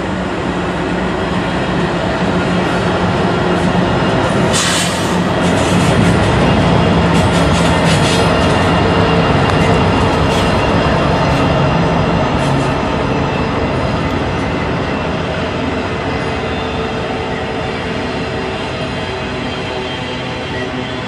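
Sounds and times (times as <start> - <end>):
freight cars rolling: 0.0 - 18.0
diesel locomotive engine drone: 0.0 - 21.0.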